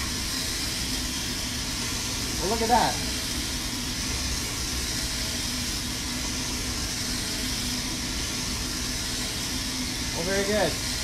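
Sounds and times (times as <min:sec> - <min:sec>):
exhaust hood fan running: 0:00.0 - 0:11.0.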